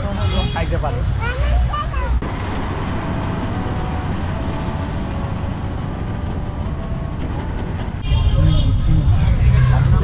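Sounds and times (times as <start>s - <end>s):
city road traffic: 0.0s - 10.0s.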